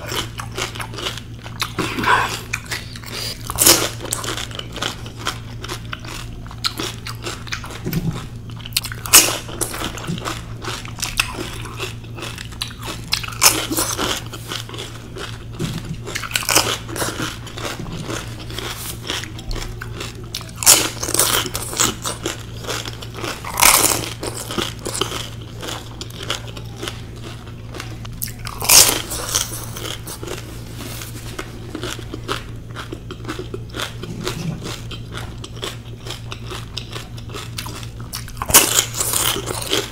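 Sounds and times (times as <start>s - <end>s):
crunching while eating: 0.0s - 39.9s
wet chewing: 0.0s - 39.9s.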